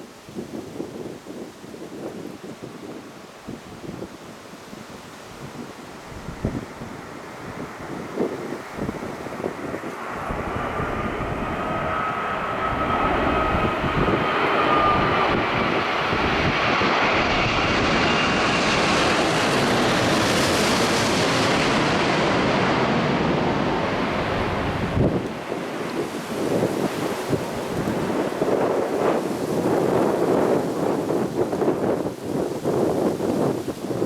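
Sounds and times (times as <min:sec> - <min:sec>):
wind buffeting microphone: 0:00.0 - 0:34.0
jet airliner passing: 0:05.3 - 0:34.0.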